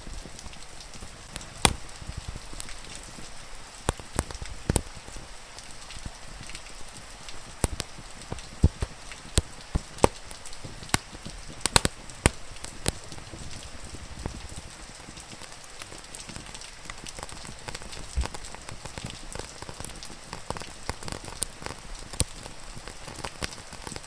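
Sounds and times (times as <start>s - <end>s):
rain falling: 0.0s - 24.0s
wood fire crackling: 0.0s - 24.0s
fire popping: 0.3s - 24.0s.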